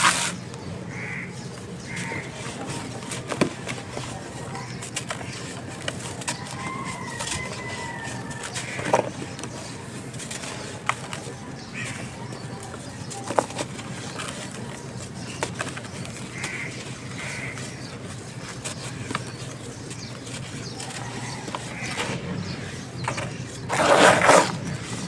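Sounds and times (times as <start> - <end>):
stone crunching crumble: 1.9 - 25.0.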